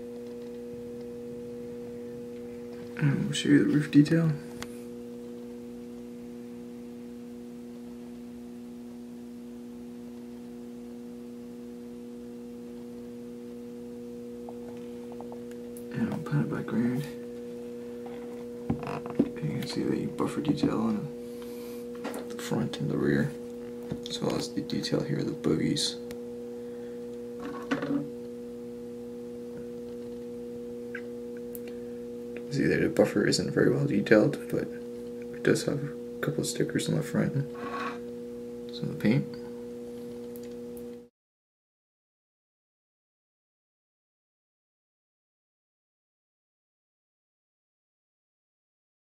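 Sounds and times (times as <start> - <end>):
steady hum: 0.0 - 41.1.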